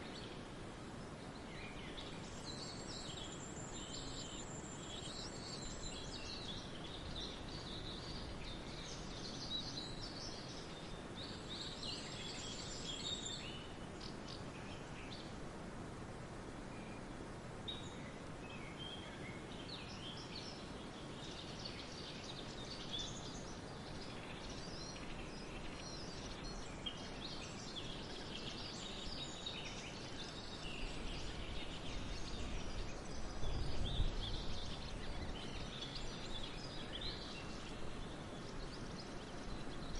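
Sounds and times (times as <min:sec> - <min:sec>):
songbirds chirping and trilling: 0:00.0 - 0:39.9
steady outdoor hiss: 0:00.0 - 0:39.9.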